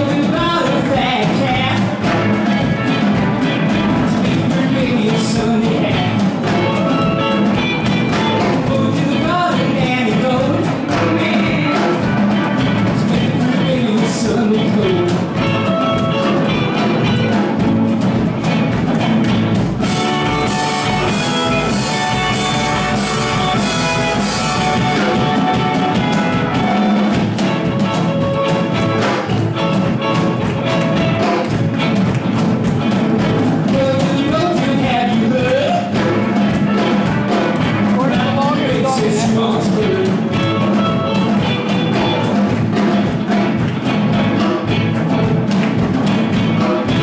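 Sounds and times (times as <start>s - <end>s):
rock and roll band playing: 0.0s - 47.0s.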